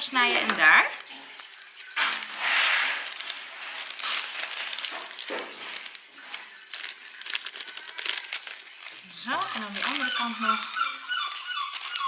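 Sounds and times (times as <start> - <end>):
plastic bag crinkling: 0.0 - 12.0
scissors cutting plastic: 0.3 - 12.0.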